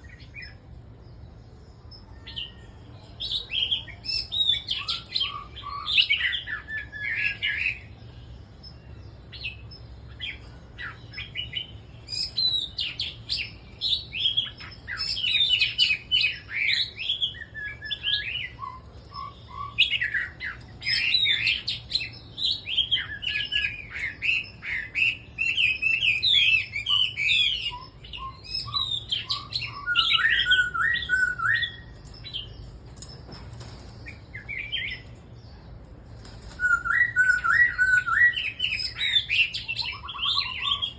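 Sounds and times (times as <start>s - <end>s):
birds singing: 0.0s - 40.9s.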